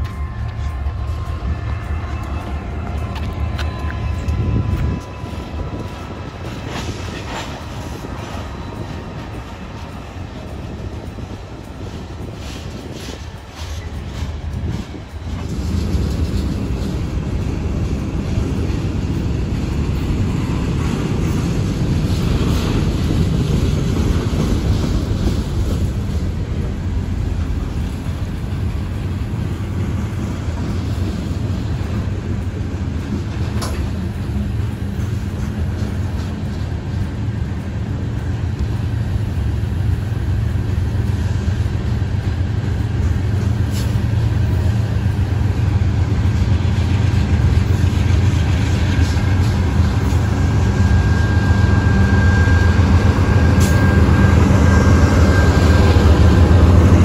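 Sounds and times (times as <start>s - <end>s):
diesel locomotive engine drone: 0.0s - 57.0s
steel wheels rumbling on rail: 0.0s - 57.0s.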